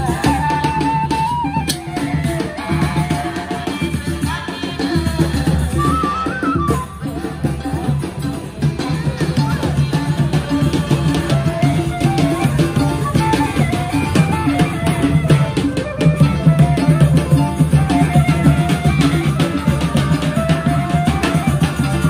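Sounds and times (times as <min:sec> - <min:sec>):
drums beating steady rhythm: 0:00.0 - 0:22.0.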